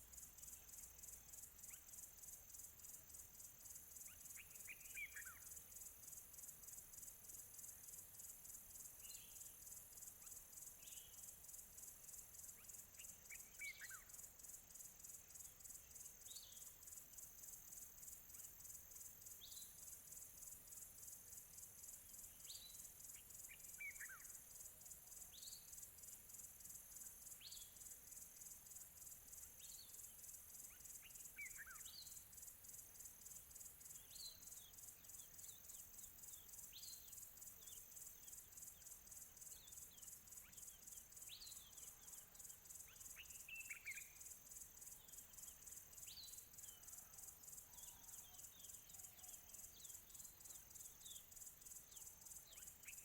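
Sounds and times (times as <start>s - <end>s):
insect chorus buzzing: 0.0s - 53.0s.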